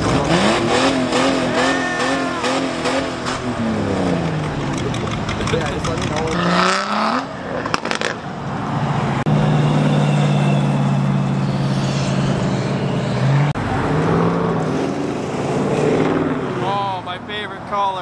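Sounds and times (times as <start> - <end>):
engine revving: 0.0 - 17.2
truck engines driving past: 0.0 - 18.0.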